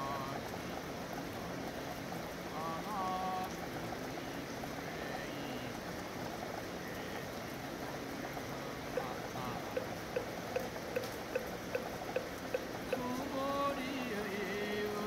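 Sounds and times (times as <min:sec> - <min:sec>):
rain falling: 0:00.0 - 0:15.0
sharp drips: 0:00.0 - 0:15.0.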